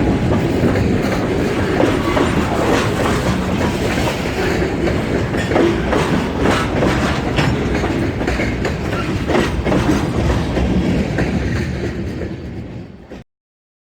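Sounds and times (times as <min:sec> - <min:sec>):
model train wheels clicking: 0:00.0 - 0:13.0.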